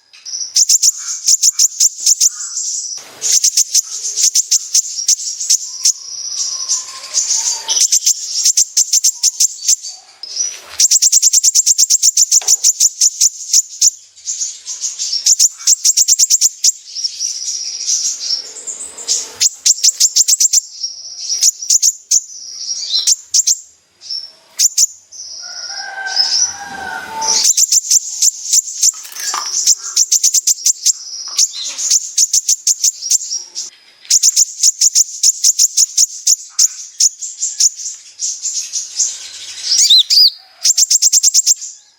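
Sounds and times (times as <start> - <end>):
sunbird singing fast ticking notes: 0.0 - 9.9, 10.8 - 25.5, 27.4 - 41.7.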